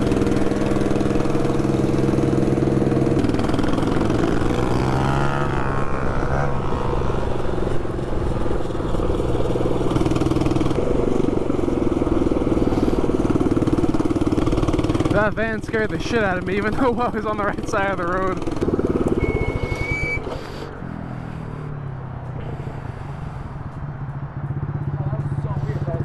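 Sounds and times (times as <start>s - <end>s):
mini bike engine running: 0.0s - 26.0s.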